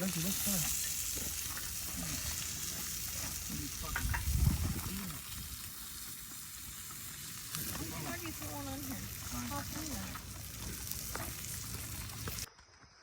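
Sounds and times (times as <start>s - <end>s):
campfire crackling and popping: 0.0s - 12.5s.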